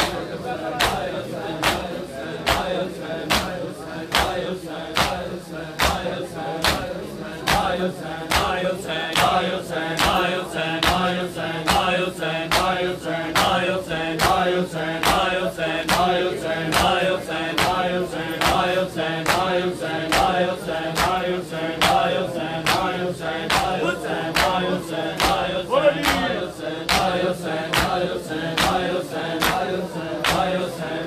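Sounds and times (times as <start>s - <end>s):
crowd chest beating slaps: 0.0s - 31.0s
men chanting in mourning rhythm: 0.0s - 31.0s.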